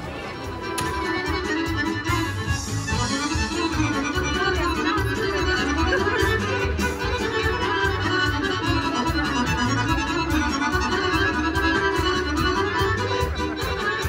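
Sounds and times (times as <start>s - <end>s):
accordion folk music: 0.0s - 14.0s
pulsing bass line: 0.9s - 14.0s.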